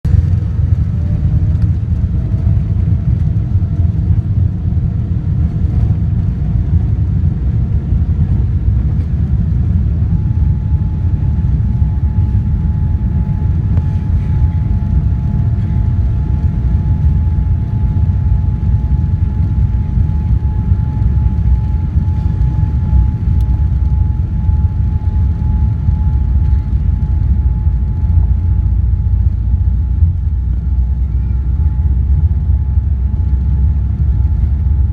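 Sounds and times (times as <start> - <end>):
jet engines rumbling: 0.0 - 34.9
steady whine: 0.0 - 34.9
faint rising whine: 0.1 - 34.9.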